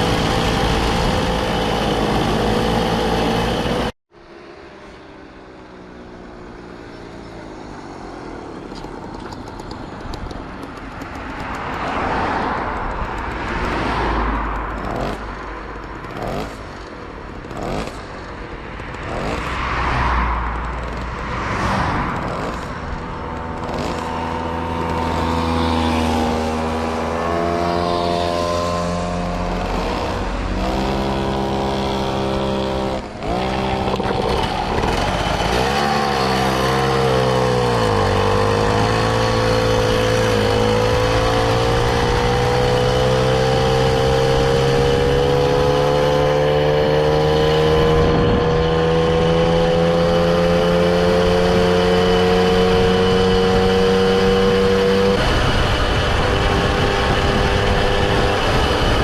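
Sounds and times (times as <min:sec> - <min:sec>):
engine revving: 0:00.0 - 0:04.0, 0:13.2 - 0:18.2, 0:18.8 - 0:59.0
small vehicle engines passing: 0:00.0 - 0:59.0.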